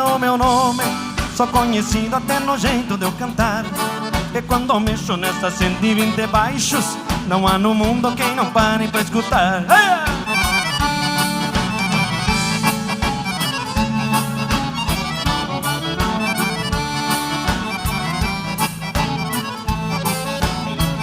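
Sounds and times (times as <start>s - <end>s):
accordion melody: 0.0s - 21.0s
bass: 0.0s - 21.0s
steady drum beat: 0.0s - 21.0s.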